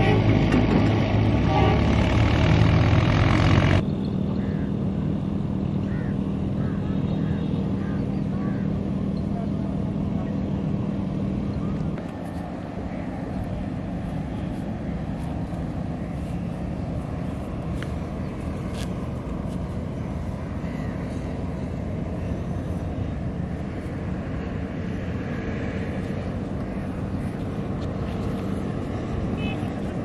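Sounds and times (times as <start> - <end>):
low motor rumble: 0.0 - 30.0.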